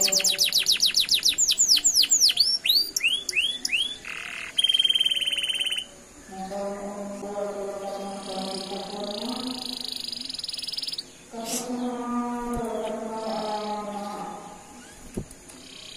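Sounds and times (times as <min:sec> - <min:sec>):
canary singing: 0:00.0 - 0:15.9.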